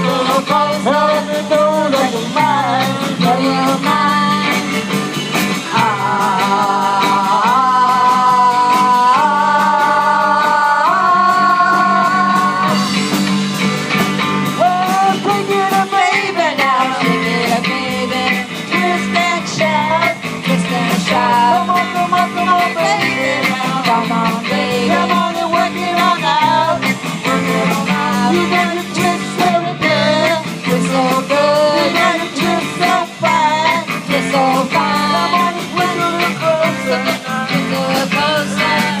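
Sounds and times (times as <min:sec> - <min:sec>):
women singing: 0:00.0 - 0:13.2, 0:14.5 - 0:39.0
drum kit beat: 0:00.0 - 0:39.0
electric guitars: 0:00.0 - 0:39.0.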